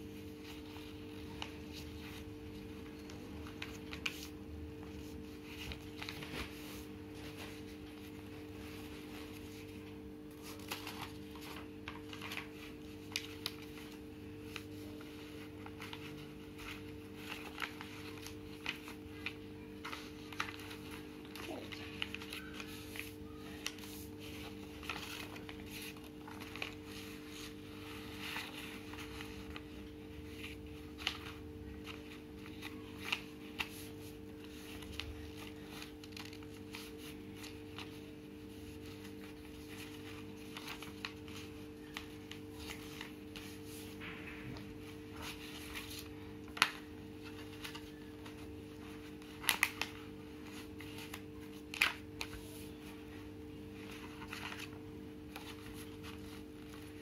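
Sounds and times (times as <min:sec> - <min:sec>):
paper rustling and crinkling: 0:00.0 - 0:57.0.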